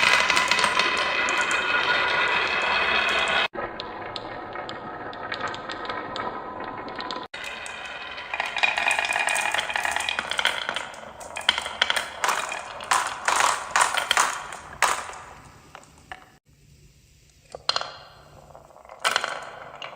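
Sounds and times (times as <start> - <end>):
marbles rattling along track: 0.0 - 16.3, 17.6 - 19.9.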